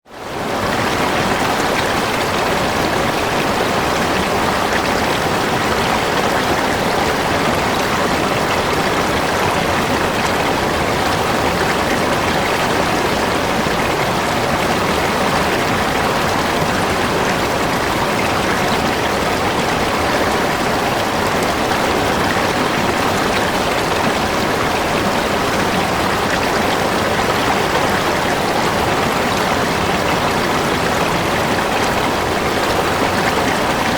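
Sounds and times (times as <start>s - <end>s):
water flowing over rocks: 0.1s - 33.9s.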